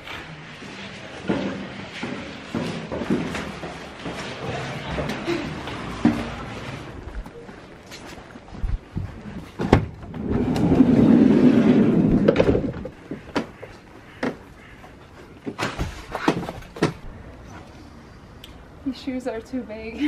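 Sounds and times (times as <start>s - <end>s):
knocks and clunks of packing: 1.0s - 17.1s.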